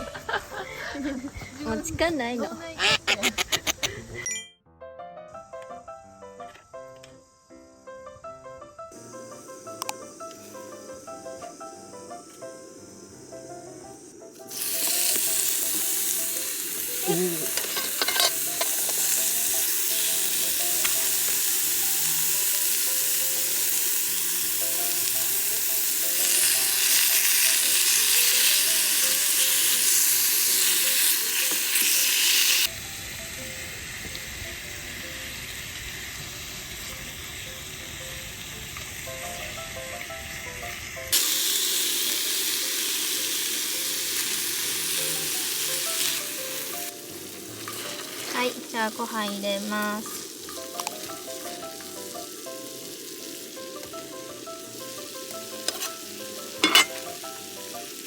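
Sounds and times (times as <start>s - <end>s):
food sizzling in a pan: 8.8s - 58.0s.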